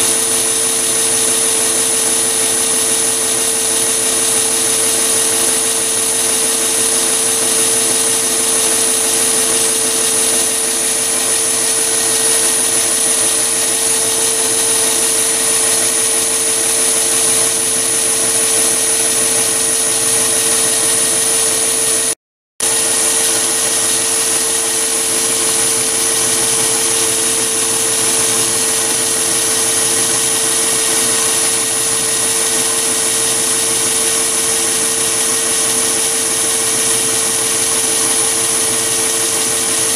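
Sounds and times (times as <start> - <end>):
lathe whining while cutting metal: 0.0 - 39.9.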